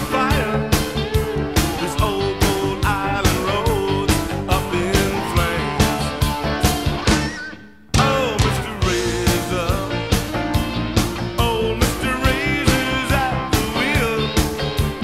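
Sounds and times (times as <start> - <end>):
rock song with vocals: 0.0 - 15.0.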